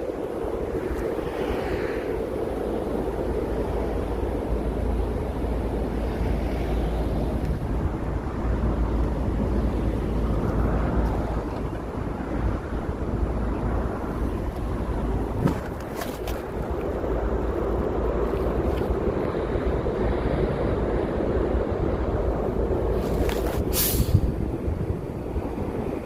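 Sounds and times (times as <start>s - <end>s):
passing vehicles rumbling: 0.0s - 26.0s.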